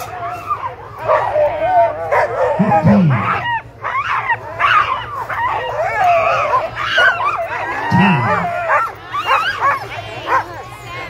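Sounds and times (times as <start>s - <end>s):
sled dogs barking and crying out: 0.0s - 11.0s.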